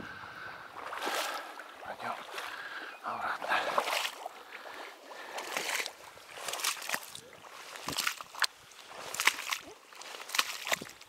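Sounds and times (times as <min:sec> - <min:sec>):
footsteps sloshing through water: 0:00.1 - 0:11.0.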